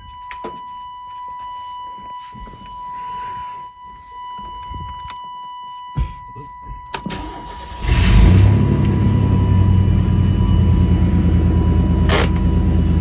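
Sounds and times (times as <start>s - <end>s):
high-pitched car warning tone: 0.0s - 13.0s.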